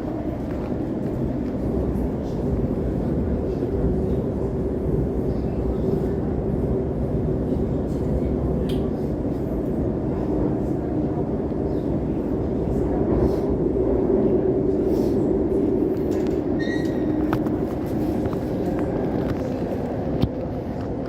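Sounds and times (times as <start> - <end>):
electric train hum: 0.0 - 21.0
train wheels rumbling on rail: 0.0 - 21.0.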